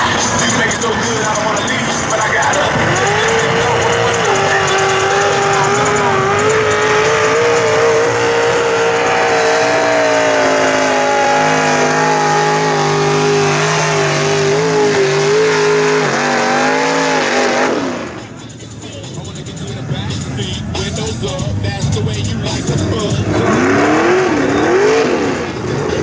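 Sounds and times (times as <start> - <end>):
truck engine running hard: 0.0 - 26.0.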